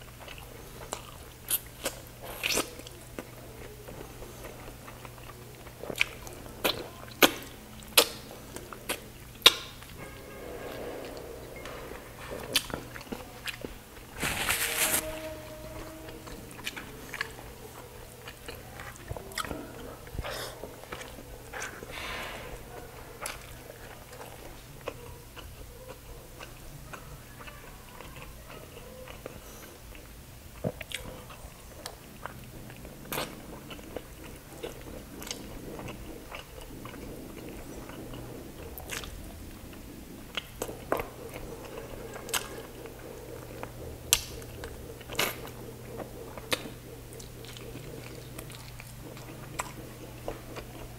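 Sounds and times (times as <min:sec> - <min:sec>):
faint low hum: 0:00.0 - 0:50.9
man chewing food: 0:00.0 - 0:50.9.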